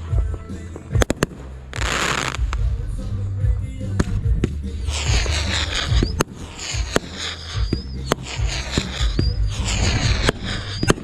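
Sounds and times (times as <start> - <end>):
firework bangs: 0.0 - 11.0
fireworks crackling and fizzing: 0.0 - 11.0.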